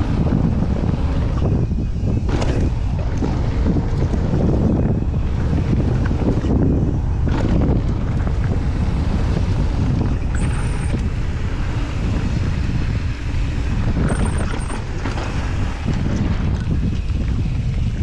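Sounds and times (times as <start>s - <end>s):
bike knocking and rattling: 0.0s - 18.0s
wind rushing over microphone: 0.0s - 18.0s.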